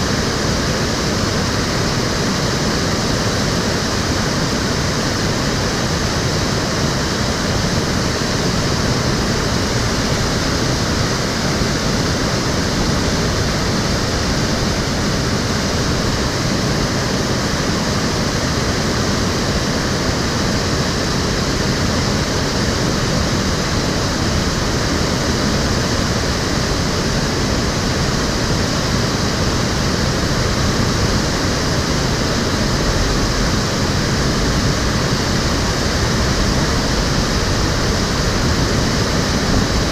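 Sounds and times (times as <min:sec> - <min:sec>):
stream water rushing over stones: 0:00.1 - 0:39.9.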